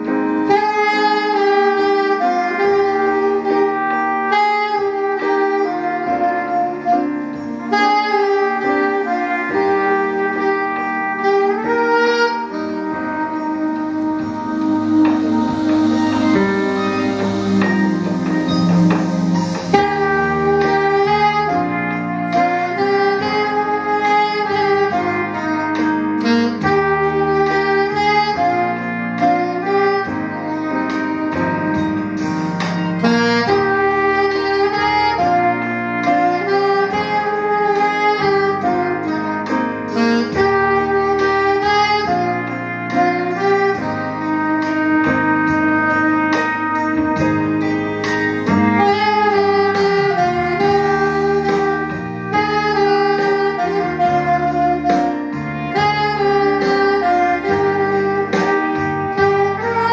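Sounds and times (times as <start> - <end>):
backing bass line and beat: 0.0 - 59.9
saxophone slow melody: 0.0 - 59.9.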